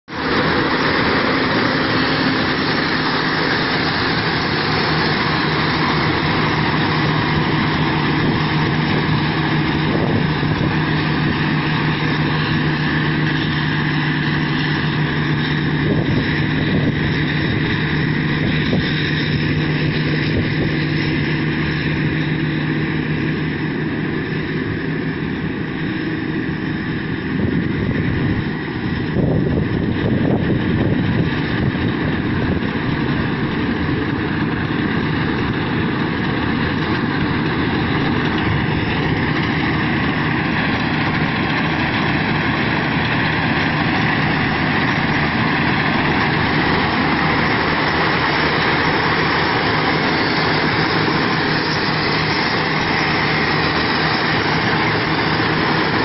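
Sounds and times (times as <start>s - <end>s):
combine harvester engine humming: 0.0s - 56.0s.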